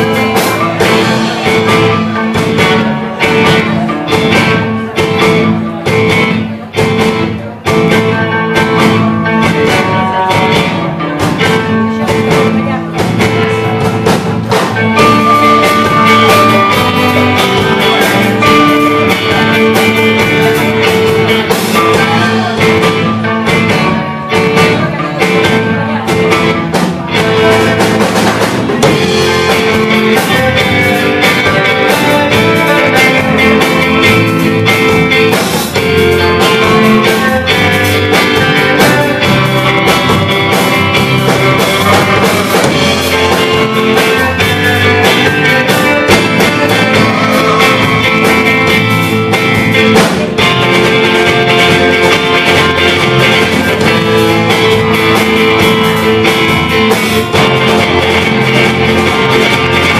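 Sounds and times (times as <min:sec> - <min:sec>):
drum kit: 0:00.0 - 0:59.9
electric bass: 0:00.0 - 0:59.9
electric guitars: 0:00.0 - 0:59.9.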